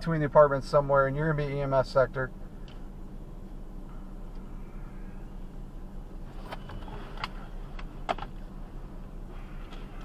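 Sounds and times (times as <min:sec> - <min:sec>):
idling vehicle hum: 0:00.0 - 0:10.0.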